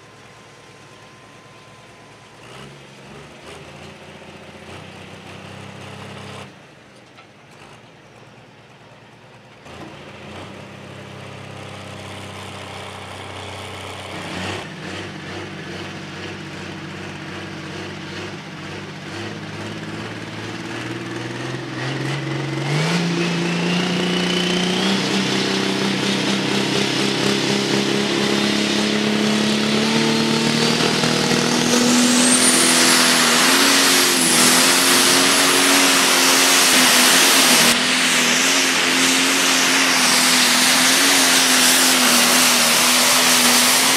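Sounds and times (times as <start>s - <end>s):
turbocharger whine: 0.0s - 5.2s, 13.8s - 43.9s
diesel engine under full load: 0.0s - 43.9s.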